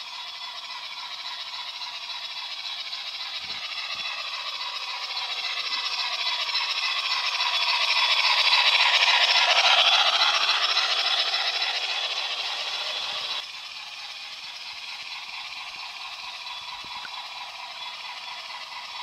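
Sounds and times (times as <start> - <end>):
model train wheels rattling on track: 0.0 - 19.0.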